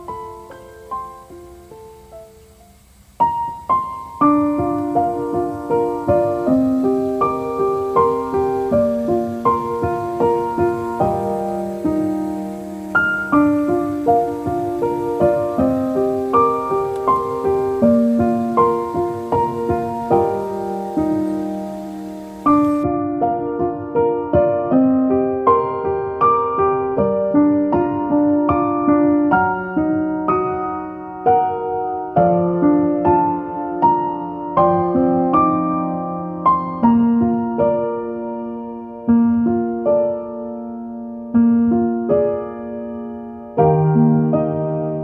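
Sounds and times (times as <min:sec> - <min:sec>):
gentle piano piece: 0:00.0 - 0:45.0.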